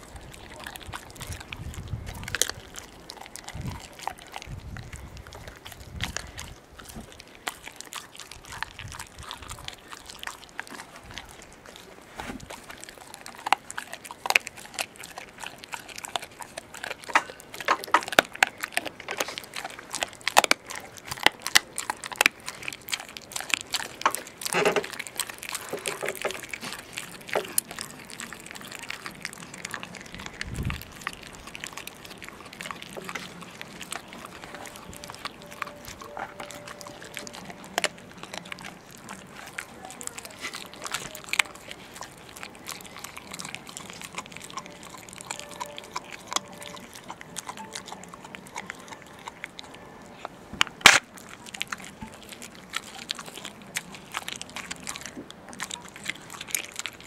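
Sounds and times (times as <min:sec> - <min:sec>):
puppy chewing and crunching bones: 0:00.0 - 0:57.0.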